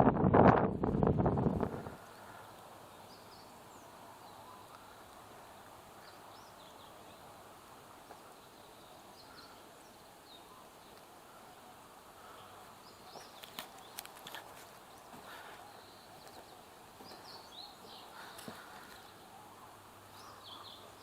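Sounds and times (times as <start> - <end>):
soft steady hiss: 1.6 - 21.0.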